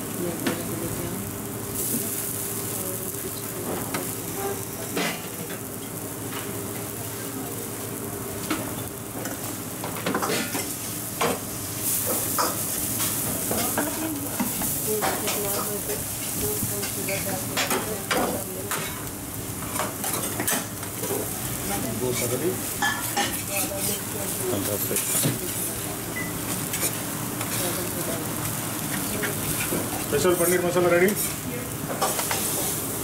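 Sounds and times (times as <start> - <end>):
food sizzling on griddle: 0.0 - 33.0.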